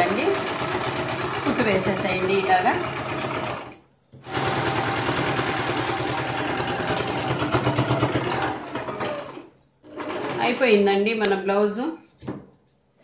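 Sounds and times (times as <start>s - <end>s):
sewing machine running: 0.0s - 10.6s.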